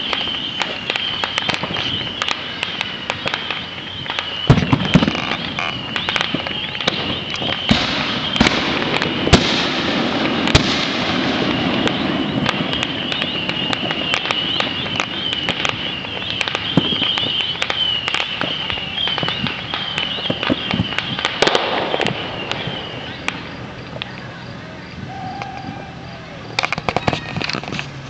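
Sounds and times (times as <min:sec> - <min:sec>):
high wavering whistle: 0:00.0 - 0:09.4, 0:11.2 - 0:23.6, 0:25.0 - 0:26.3
distant firecracker pops: 0:00.0 - 0:24.3, 0:26.5 - 0:27.9.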